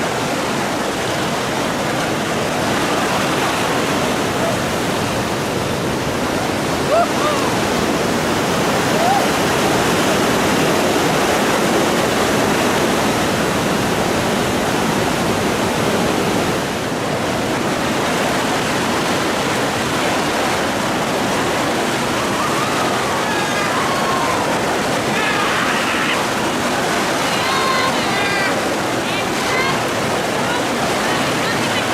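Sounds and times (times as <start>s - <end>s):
river rapids rushing: 0.0s - 31.9s.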